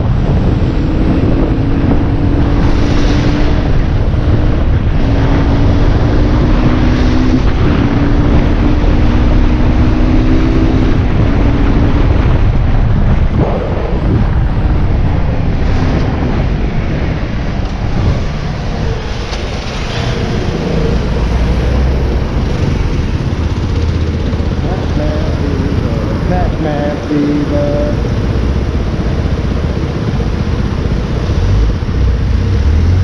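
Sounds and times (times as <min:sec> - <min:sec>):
motorbike engine cruising: 0:00.0 - 0:33.0
wind noise on microphone: 0:00.0 - 0:33.0.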